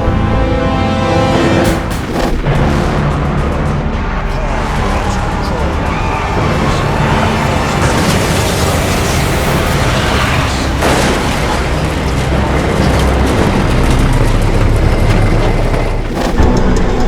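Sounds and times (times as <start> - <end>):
highway traffic rushing: 0.0 - 16.9.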